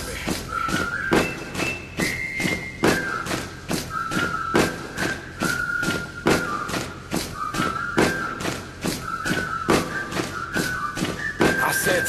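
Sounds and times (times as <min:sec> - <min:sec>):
high whistle-like synth lead: 0:00.5 - 0:12.0.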